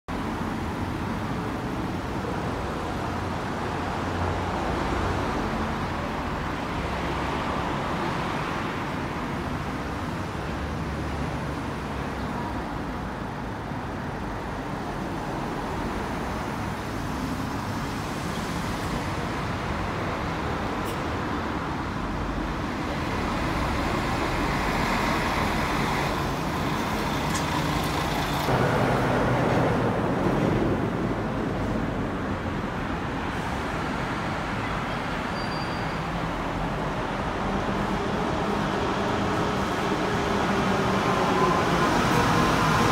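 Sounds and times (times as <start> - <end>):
cars driving past: 0.1 - 42.9
traffic under underpass: 0.1 - 42.9.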